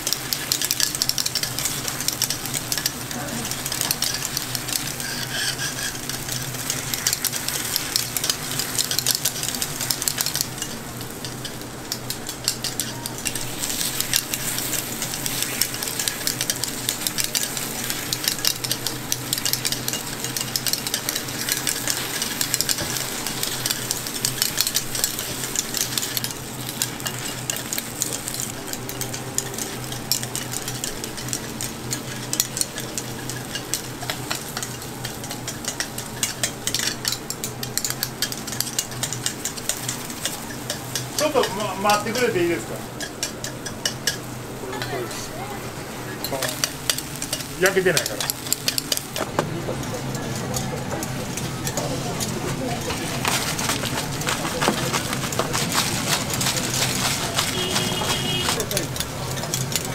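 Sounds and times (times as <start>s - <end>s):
metal picks clicking and scraping: 0.0s - 45.0s, 46.2s - 59.9s
batter sizzling in grill pan: 0.0s - 59.9s.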